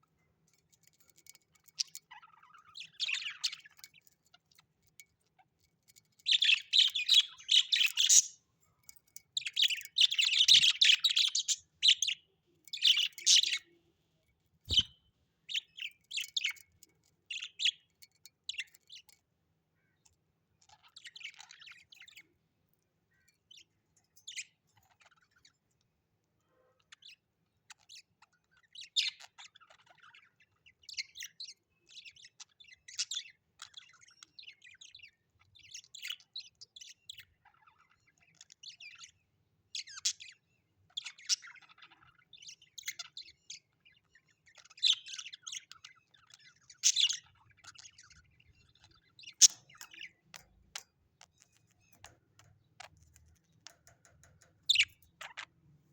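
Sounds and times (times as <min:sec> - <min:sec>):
birds chirping: 0:00.0 - 0:25.8, 0:26.4 - 0:55.9.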